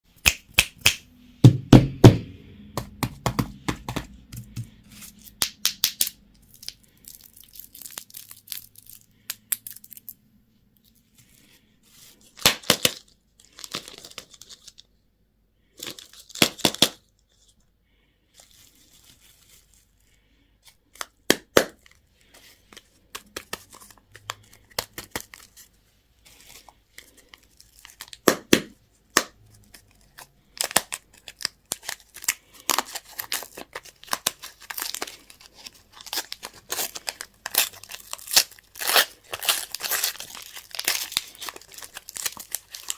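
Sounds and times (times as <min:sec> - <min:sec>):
candy wrappers crinkling: 0:03.3 - 0:10.2, 0:10.8 - 0:14.9, 0:15.7 - 0:17.6, 0:18.3 - 0:42.9.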